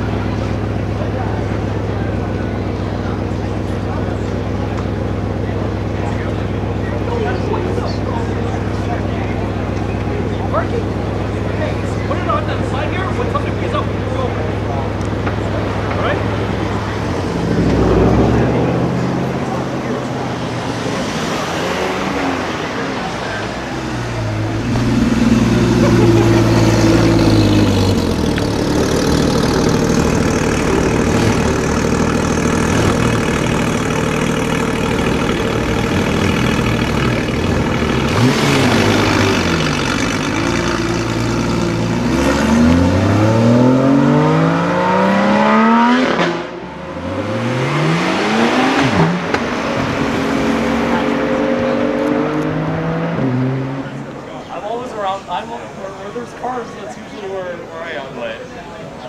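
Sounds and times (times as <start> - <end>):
car engine accelerating: 0.0 - 55.8.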